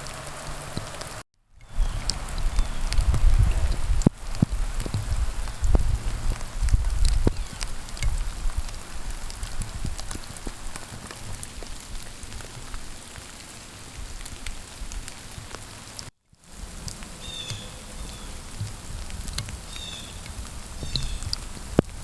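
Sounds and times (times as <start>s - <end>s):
freezing rain pattering: 0.0s - 22.0s.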